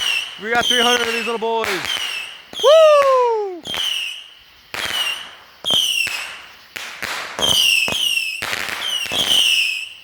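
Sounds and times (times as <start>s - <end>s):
firework bangs: 0.0s - 10.0s
firework whistles: 0.0s - 10.0s.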